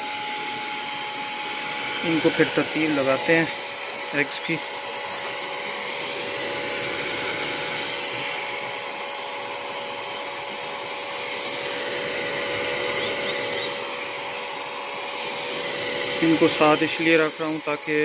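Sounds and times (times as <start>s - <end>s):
electric fan whirring: 0.0s - 18.0s.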